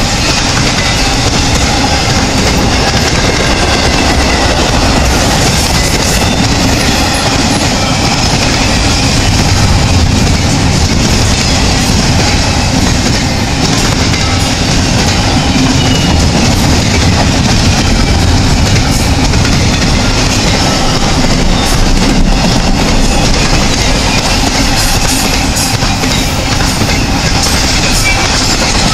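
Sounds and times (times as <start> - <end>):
steel wheels rumbling on rails: 0.0 - 28.9.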